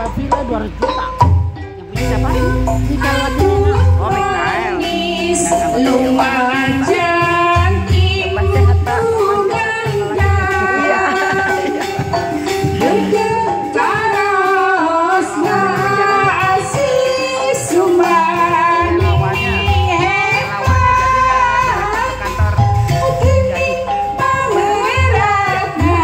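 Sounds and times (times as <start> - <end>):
instrumental backing: 0.0 - 26.0
woman singing wavering melody: 2.0 - 26.0.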